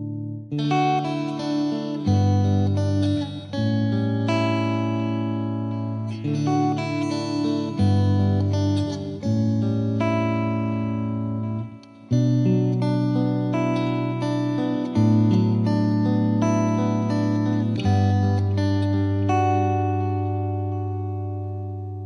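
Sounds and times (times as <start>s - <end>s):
guitar background music: 0.0s - 22.0s.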